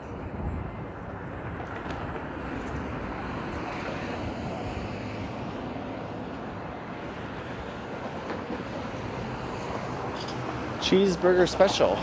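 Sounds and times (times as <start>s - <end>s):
city street traffic noise: 0.0s - 12.0s.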